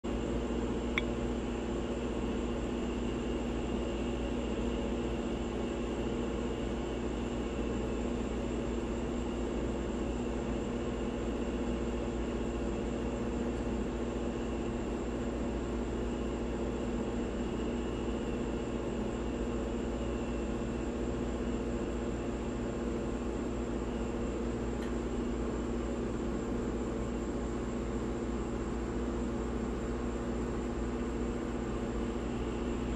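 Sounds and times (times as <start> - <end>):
steady machine hum: 0.1 - 32.9.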